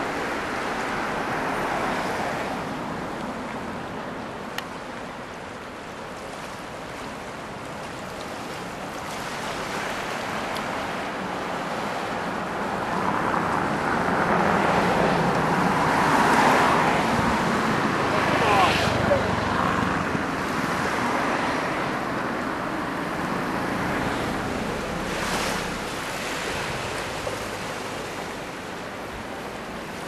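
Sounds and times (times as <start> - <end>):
small waves rushing: 0.0 - 30.0
wind: 0.0 - 30.0.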